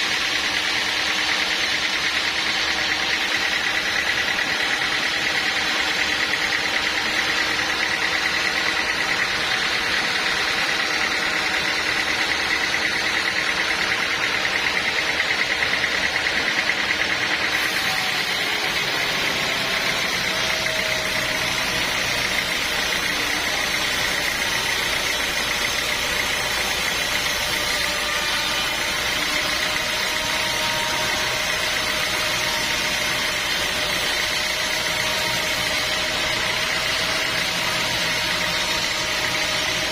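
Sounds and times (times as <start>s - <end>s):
sawmill machinery whining: 0.0s - 39.9s.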